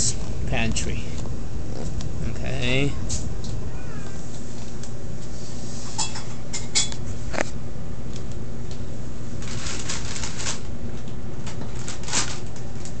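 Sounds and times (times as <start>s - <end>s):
refrigerator humming: 0.0s - 13.0s.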